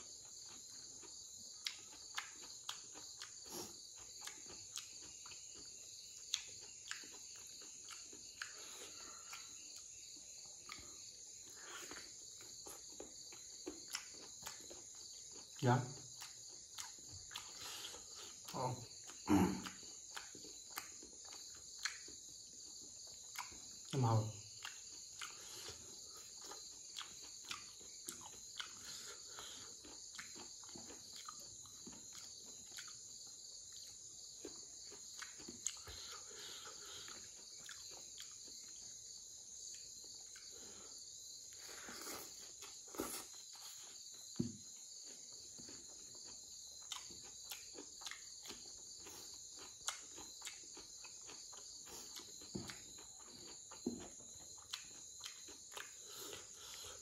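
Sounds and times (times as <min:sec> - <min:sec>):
insects chirring: 0:00.0 - 0:57.0
person chewing crunchy food: 0:00.0 - 0:57.0.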